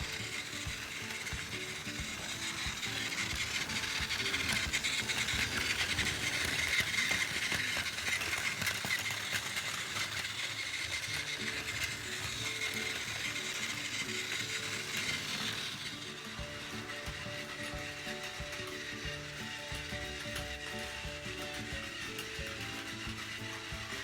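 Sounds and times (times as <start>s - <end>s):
toy train motor whirring: 0.0s - 24.0s
wheels clicking on rail joints: 0.0s - 24.0s.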